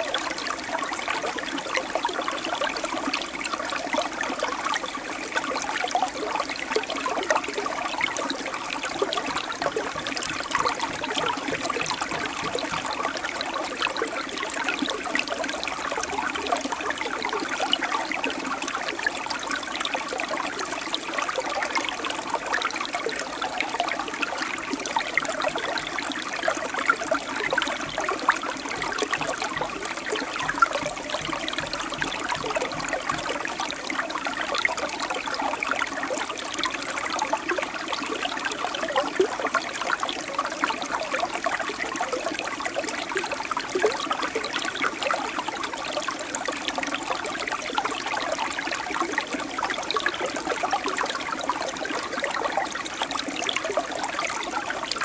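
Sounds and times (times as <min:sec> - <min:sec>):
stream splashing over stones: 0:00.0 - 0:55.0.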